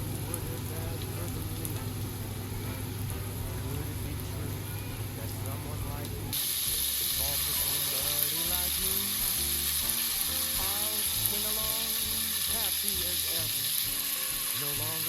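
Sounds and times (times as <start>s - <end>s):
food frying in hot oil: 0.0s - 15.0s.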